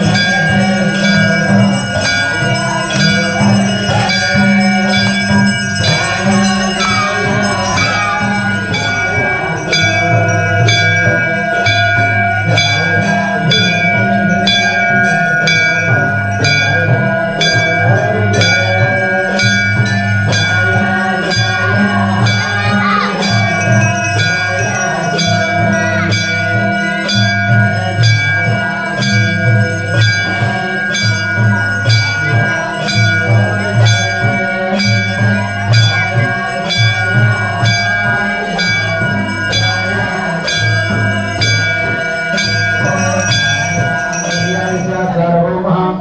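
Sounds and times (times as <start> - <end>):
temple bells ringing: 0.0 - 46.0.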